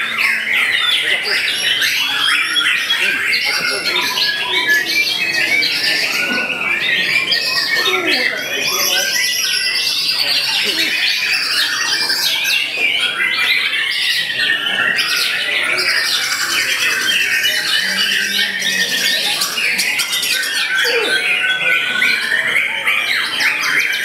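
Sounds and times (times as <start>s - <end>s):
other songbirds singing: 0.0s - 24.0s.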